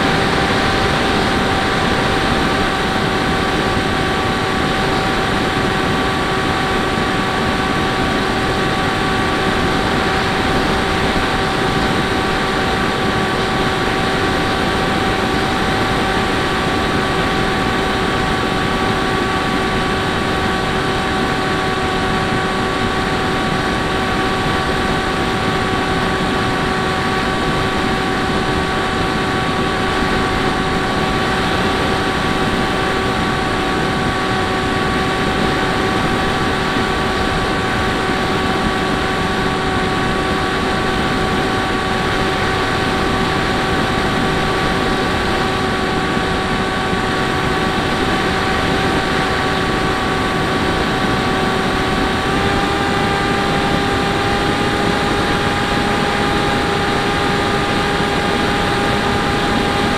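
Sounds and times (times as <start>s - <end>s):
electric propeller whining: 0.0s - 59.9s.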